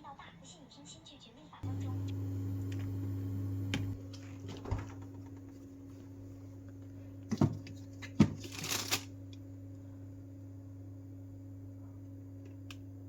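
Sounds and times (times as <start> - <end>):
steady low hum: 1.6 - 13.0.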